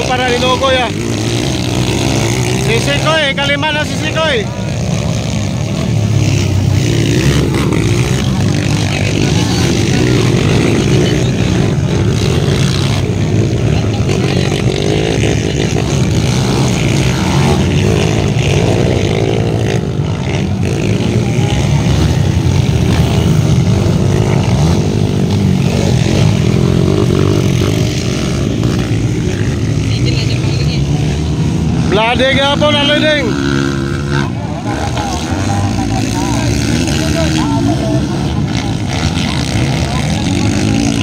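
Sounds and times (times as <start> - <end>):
dirt bike engines revving: 0.0 - 41.0.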